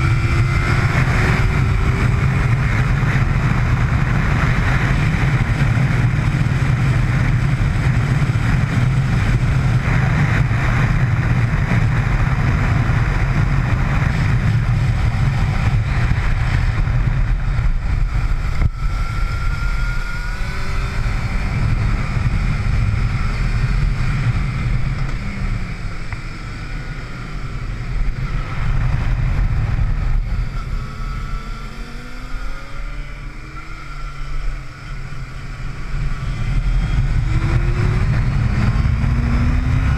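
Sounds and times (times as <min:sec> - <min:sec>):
motorcycle engine running hard: 0:00.0 - 0:39.9
wind rush on microphone: 0:00.0 - 0:39.9.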